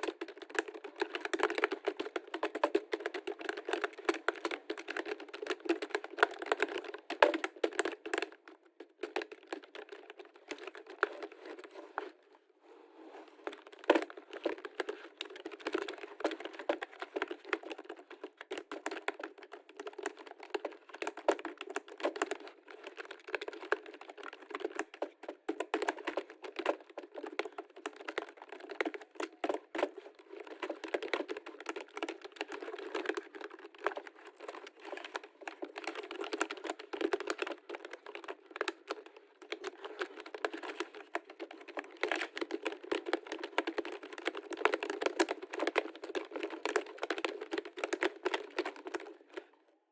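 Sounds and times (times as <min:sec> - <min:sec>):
typing on computer keyboard: 0:00.0 - 0:11.7, 0:13.4 - 0:49.5.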